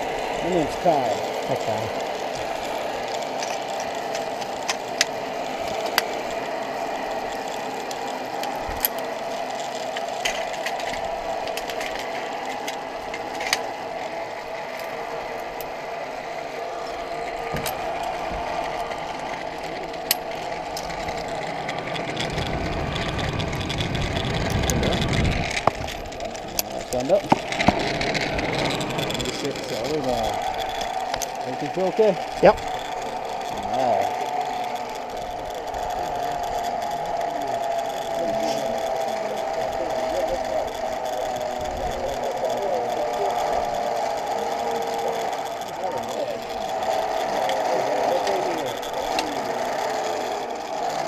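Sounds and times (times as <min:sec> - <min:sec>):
mechanical whirring hum: 0:00.0 - 0:51.0
metal clicks of carabiners: 0:01.9 - 0:15.8, 0:16.8 - 0:51.0.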